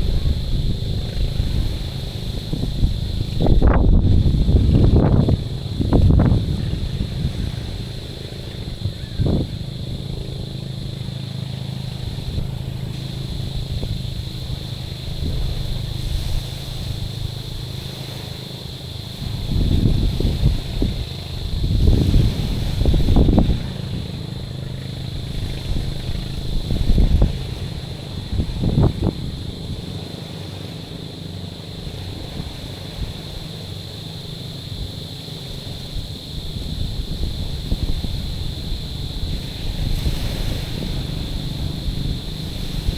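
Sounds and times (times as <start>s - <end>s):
waves lapping on pebbly shore: 0.0s - 42.9s
wind buffeting microphone: 0.0s - 42.9s.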